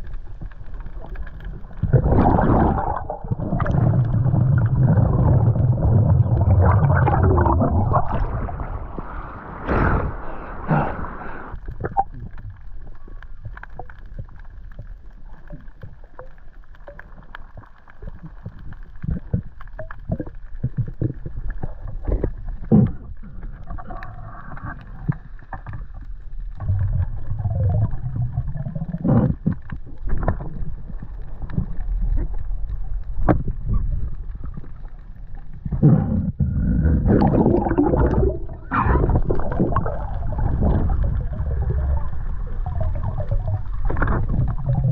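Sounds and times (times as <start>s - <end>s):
underwater rumble: 0.0s - 44.9s.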